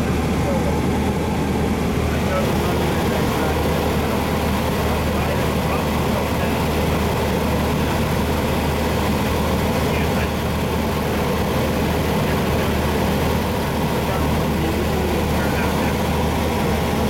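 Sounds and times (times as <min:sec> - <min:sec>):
plane engine and propeller drone: 0:00.0 - 0:17.0.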